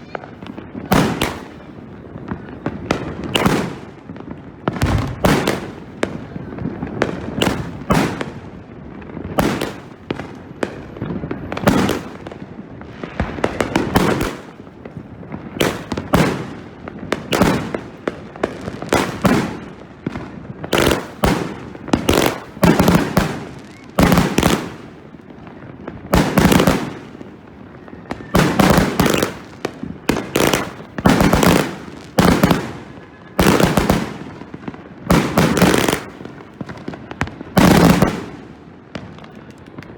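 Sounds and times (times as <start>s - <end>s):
firework salute bangs: 0.0s - 8.5s, 9.2s - 16.6s, 17.2s - 25.1s, 26.1s - 39.9s.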